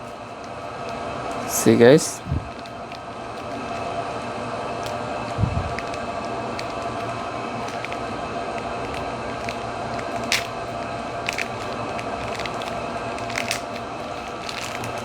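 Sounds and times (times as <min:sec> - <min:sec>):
mechanical background hum: 0:00.0 - 0:15.0.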